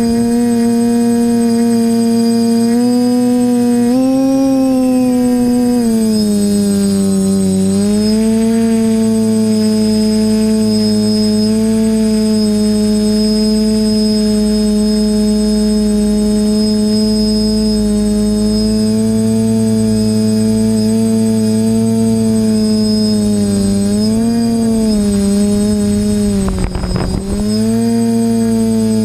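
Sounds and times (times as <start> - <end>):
quadcopter propellers humming: 0.0 - 29.0.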